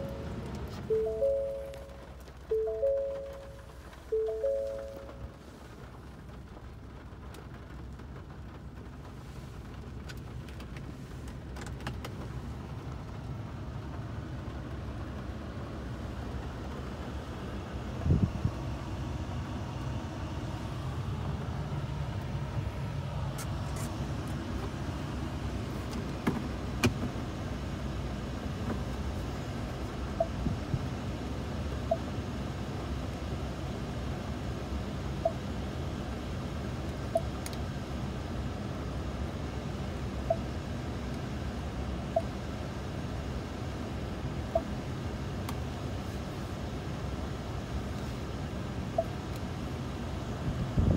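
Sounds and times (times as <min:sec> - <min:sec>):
engine rumble inside cab: 0:00.0 - 0:50.9.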